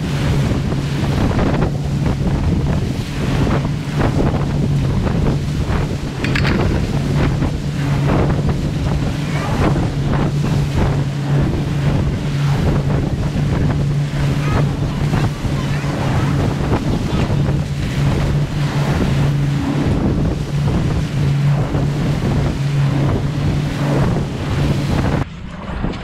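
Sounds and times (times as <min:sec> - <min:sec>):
boat engine humming: 0:00.0 - 0:26.0
water splashing at hull: 0:00.0 - 0:26.0
wind buffeting microphone: 0:00.0 - 0:26.0.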